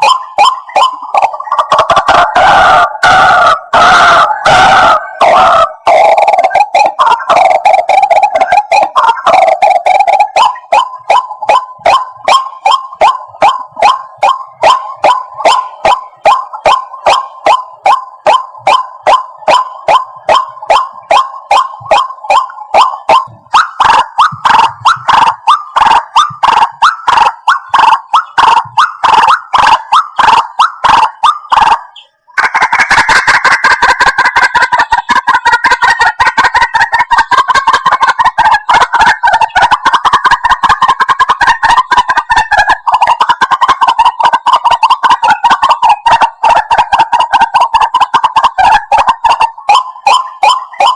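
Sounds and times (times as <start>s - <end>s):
waterhen calls: 0.0s - 50.9s.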